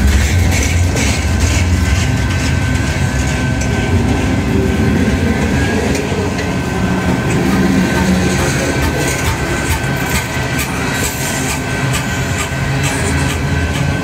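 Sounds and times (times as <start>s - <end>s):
steel wheels rumbling on rail: 0.0s - 14.0s.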